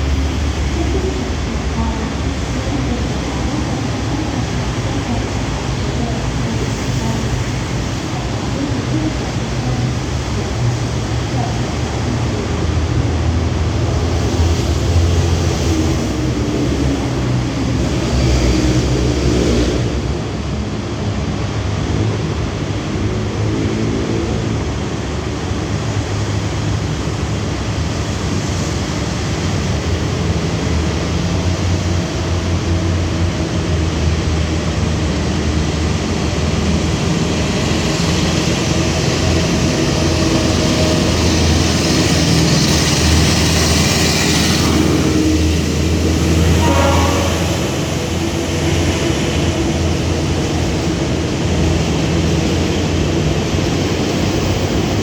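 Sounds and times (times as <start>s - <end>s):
locomotive engine hum: 0.0s - 55.0s.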